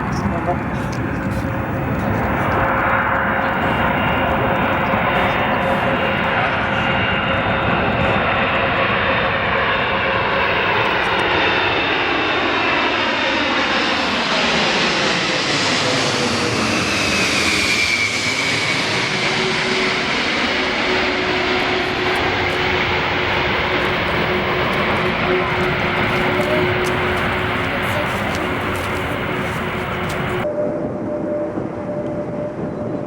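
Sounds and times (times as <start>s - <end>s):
jet engines flying past: 0.0s - 33.0s.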